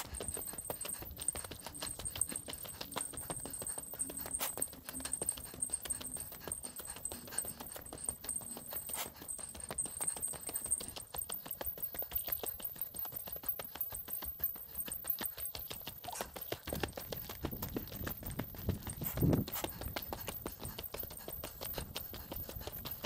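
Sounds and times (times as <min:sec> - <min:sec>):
footsteps on mountain track: 0:00.0 - 0:23.0.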